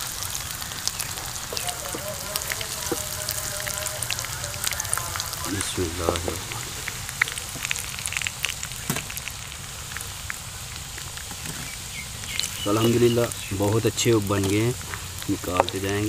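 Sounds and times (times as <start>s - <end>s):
food sizzling in hot oil: 0.0s - 16.0s
oil crackling pops: 0.0s - 16.0s.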